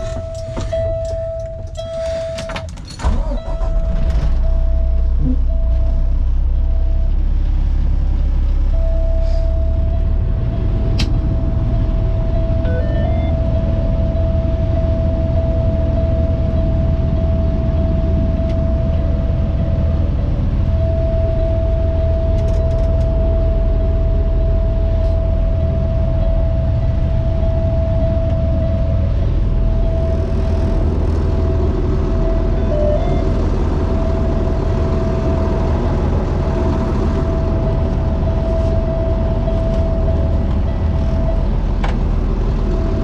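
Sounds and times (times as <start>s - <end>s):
constant high-pitched tone: 0.0s - 43.0s
truck engine rumbling: 0.0s - 43.0s.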